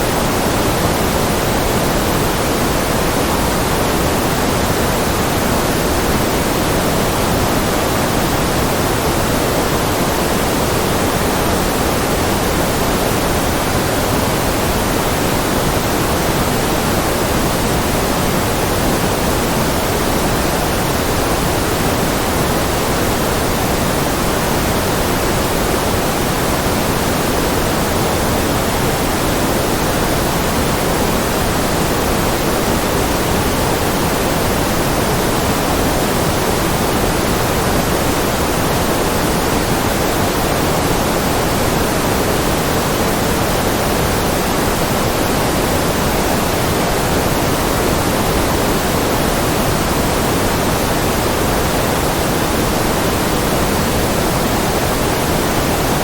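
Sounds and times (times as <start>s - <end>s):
steady noise hiss: 0.0s - 56.0s.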